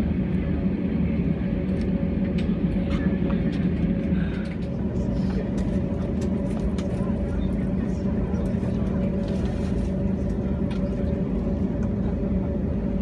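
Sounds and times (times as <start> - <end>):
engine and air-conditioning drone: 0.1 - 13.0.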